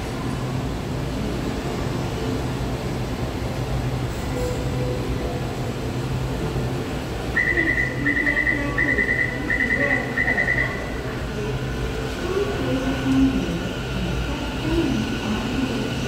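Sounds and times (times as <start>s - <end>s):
metro train humming: 0.0s - 16.0s.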